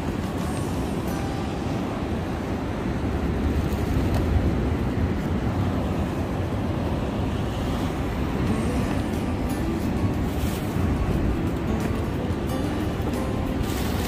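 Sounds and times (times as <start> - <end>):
waves washing against rocks: 0.0 - 14.0
wind buffeting microphone: 0.0 - 14.0.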